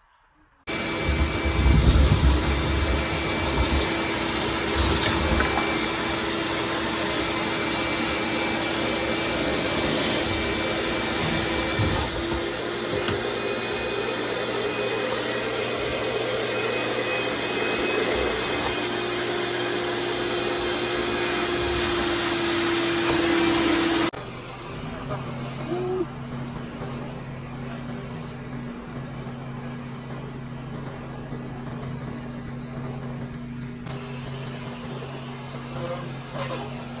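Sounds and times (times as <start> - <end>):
shop vac running: 0.7 - 37.0.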